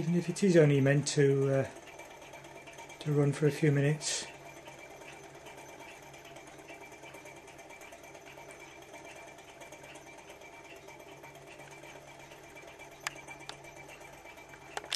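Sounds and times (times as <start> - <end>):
toy engine mechanical rattle: 0.0 - 14.9.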